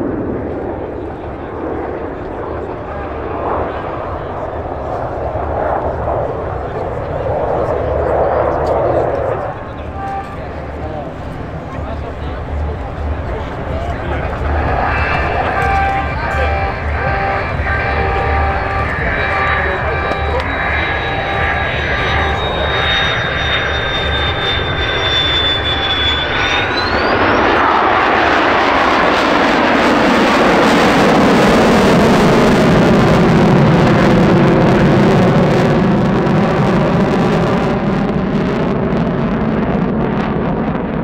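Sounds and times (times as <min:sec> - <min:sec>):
jet engine whine: 0:00.0 - 0:41.0
loud jet roar: 0:00.0 - 0:41.0.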